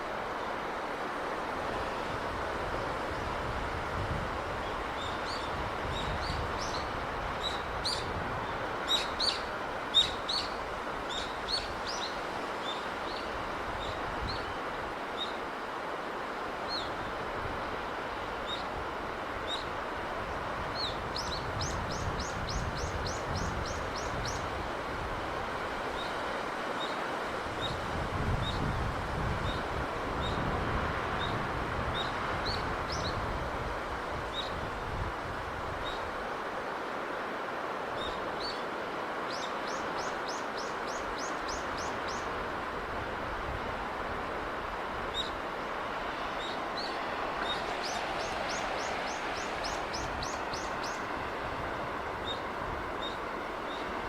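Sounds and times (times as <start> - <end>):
sea breeze and surf: 0.0 - 54.0.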